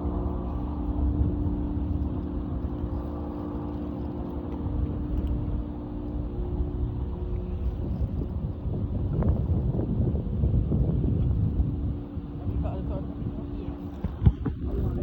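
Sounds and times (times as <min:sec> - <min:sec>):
boat engine droning: 0:00.0 - 0:15.0
low rumble: 0:00.0 - 0:15.0.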